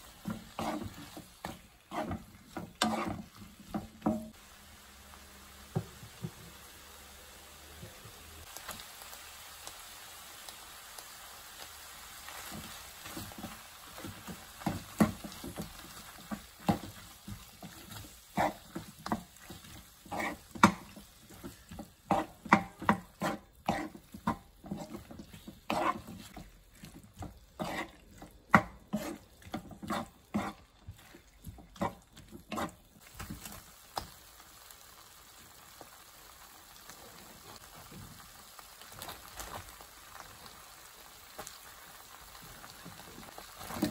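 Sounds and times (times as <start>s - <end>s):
food sizzling in a pan: 0.0s - 43.9s
stirring strokes in a pan: 0.0s - 43.9s.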